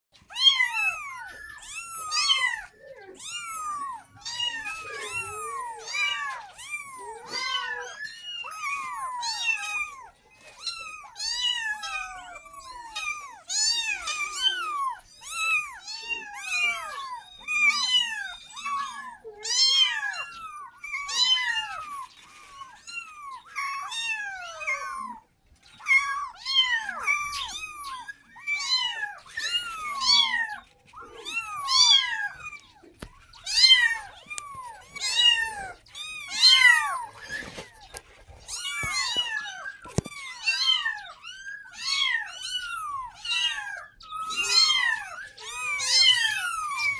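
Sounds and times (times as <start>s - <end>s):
kittens meowing: 0.2s - 46.9s.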